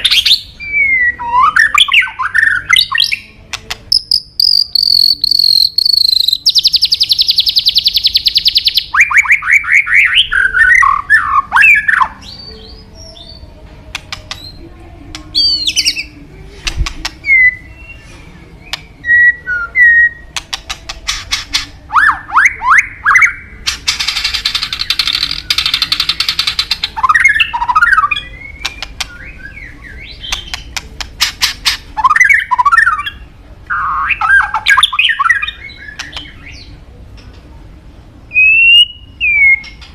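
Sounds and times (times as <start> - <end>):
songbird singing varied song: 3.9 - 30.8, 32.0 - 36.8, 38.3 - 39.9.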